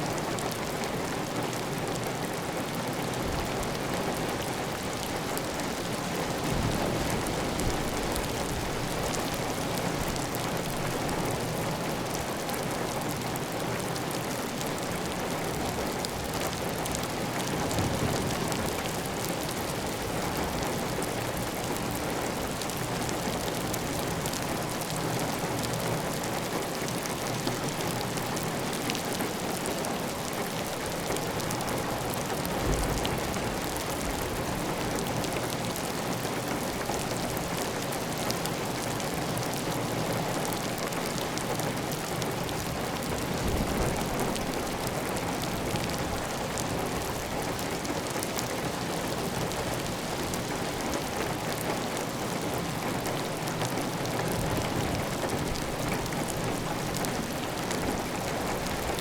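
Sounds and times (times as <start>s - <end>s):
heavy rain on tile roof: 0.0s - 59.0s.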